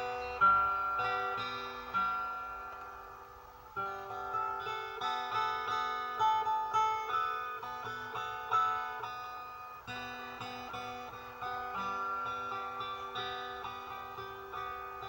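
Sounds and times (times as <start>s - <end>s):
plucked acoustic string melody: 0.0s - 15.0s.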